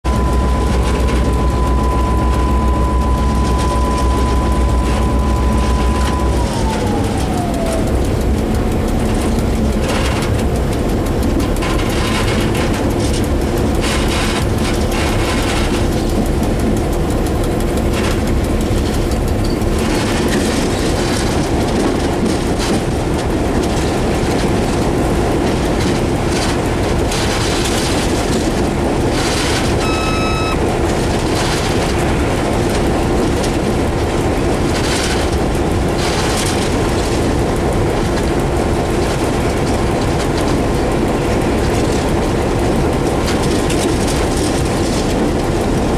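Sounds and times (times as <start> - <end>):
diesel locomotive engine rumble: 0.0 - 45.9
high steady whine: 0.0 - 45.9
wheels clicking over rails: 0.1 - 45.9.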